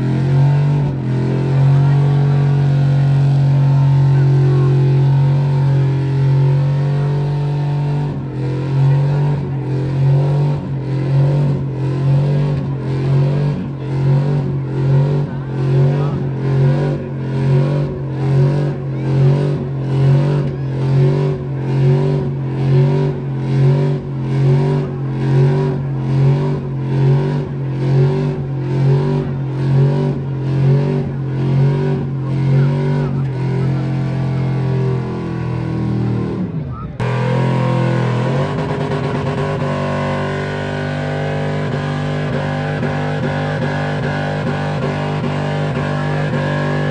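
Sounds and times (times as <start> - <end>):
vehicle engine revving: 0.0 - 46.9.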